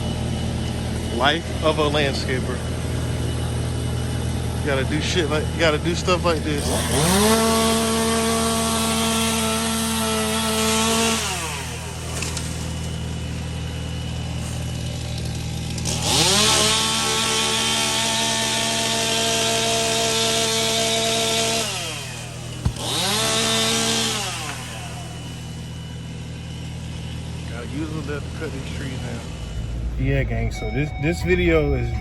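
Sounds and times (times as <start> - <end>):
chainsaw revving and idling: 0.0 - 29.9.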